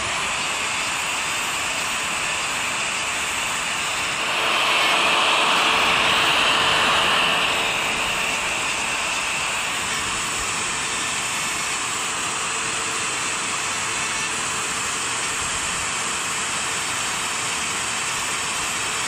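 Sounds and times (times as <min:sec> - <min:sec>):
die grinder grinding wood: 0:00.0 - 0:19.0.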